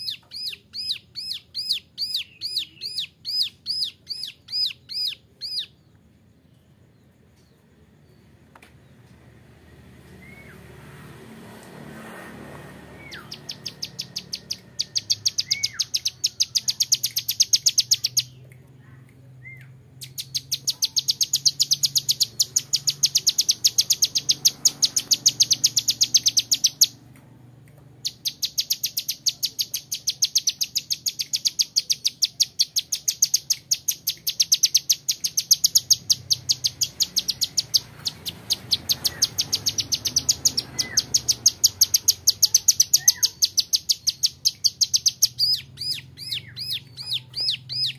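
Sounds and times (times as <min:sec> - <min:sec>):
bird singing rapid high notes: 0:00.0 - 0:05.8, 0:12.9 - 0:18.4, 0:19.4 - 0:27.0, 0:28.0 - 0:47.9.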